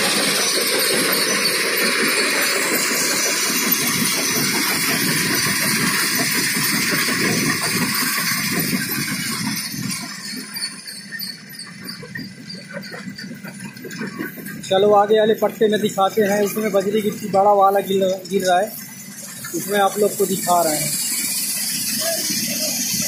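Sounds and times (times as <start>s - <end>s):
stone crusher running: 0.0s - 23.0s.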